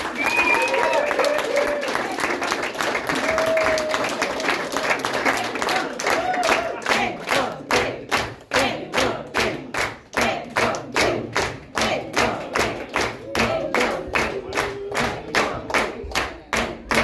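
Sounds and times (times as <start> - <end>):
audience clapping in rhythm: 0.0 - 17.0.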